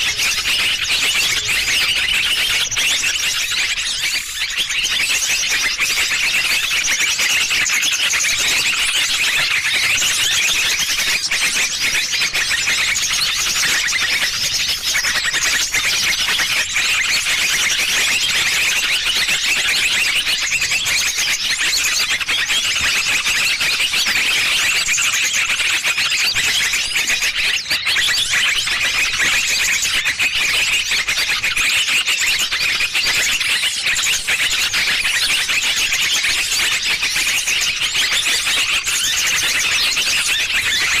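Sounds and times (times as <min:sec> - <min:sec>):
many small birds chirping: 0:00.0 - 0:41.0.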